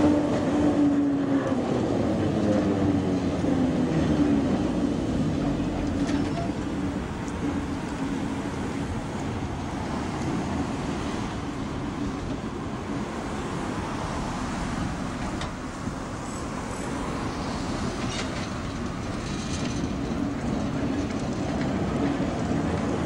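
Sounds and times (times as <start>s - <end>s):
cars passing: 0.0s - 23.0s
tram wheels on rails: 0.0s - 23.0s.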